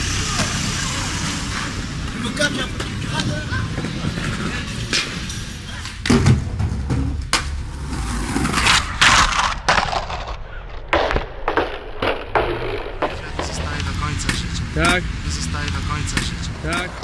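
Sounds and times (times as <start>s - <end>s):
skateboard wheels rolling: 0.0s - 14.4s
skateboard grinding along ledge: 0.4s - 15.0s.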